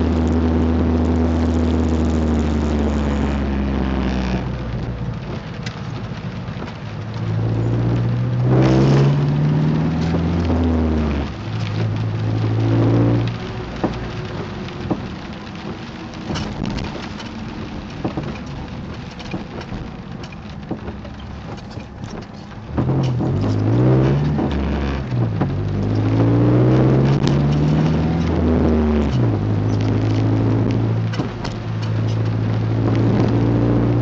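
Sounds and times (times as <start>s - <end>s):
car creaking clicks and crackles: 0.0s - 34.0s
car engine running: 0.0s - 34.0s.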